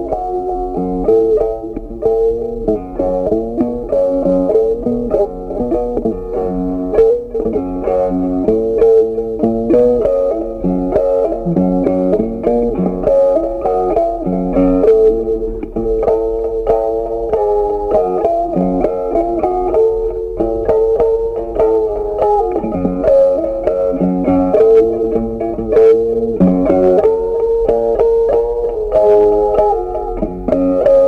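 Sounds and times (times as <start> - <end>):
instrumental music: 0.0 - 31.0.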